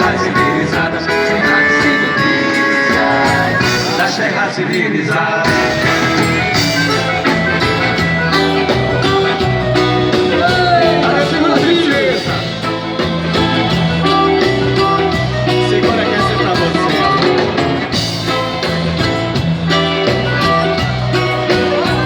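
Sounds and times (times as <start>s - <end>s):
live band music: 0.0s - 22.0s.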